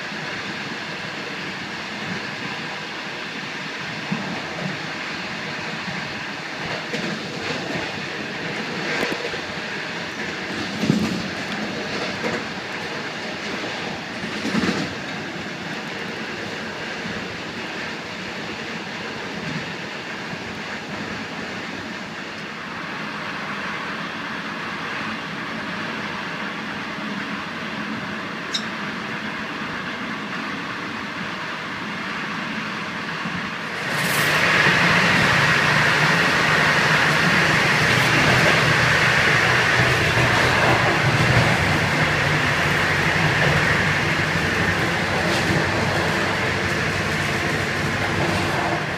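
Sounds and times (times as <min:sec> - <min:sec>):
train wheels rolling on track: 0:00.0 - 0:48.9.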